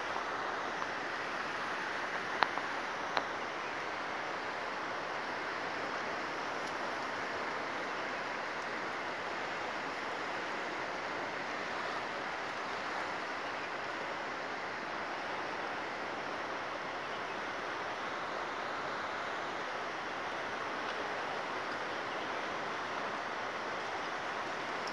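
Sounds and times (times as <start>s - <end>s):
fast-flowing river rushing: 0.0s - 24.9s.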